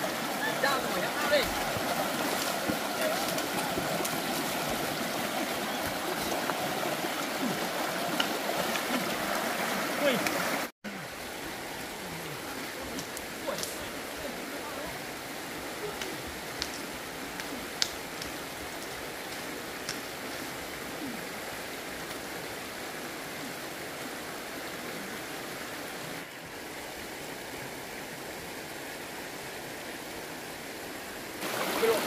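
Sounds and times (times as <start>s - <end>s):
stream running over rocks: 0.0s - 32.0s.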